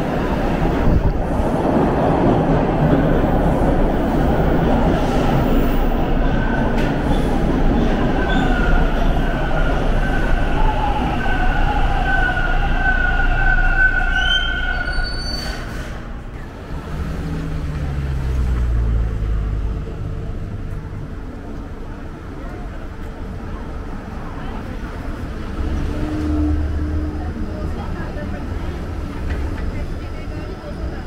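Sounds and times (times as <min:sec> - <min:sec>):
street traffic rumble: 0:00.0 - 0:31.0
subway train rumble: 0:00.0 - 0:31.0.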